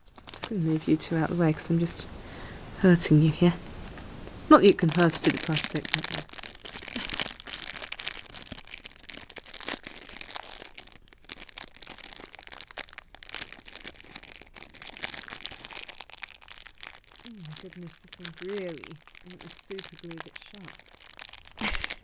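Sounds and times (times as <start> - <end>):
foil bag crinkling: 0.0 - 2.0, 4.6 - 22.0.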